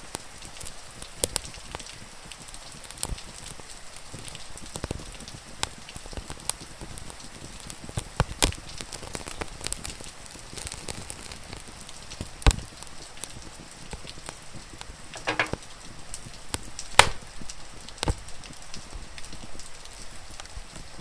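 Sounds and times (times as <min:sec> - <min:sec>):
rain hissing: 0:00.0 - 0:21.0
wood fire crackling and popping: 0:00.0 - 0:21.0.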